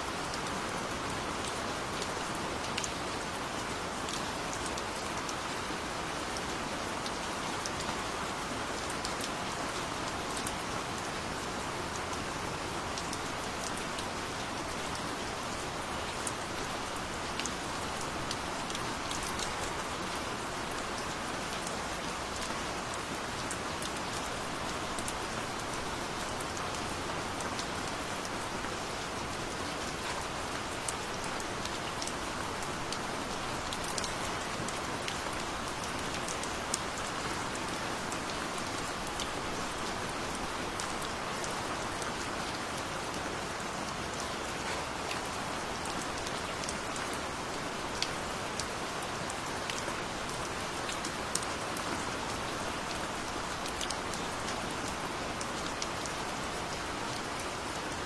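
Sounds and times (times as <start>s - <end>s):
steady rain hiss: 0.0s - 58.0s
raindrops ticking on a surface: 0.1s - 58.0s.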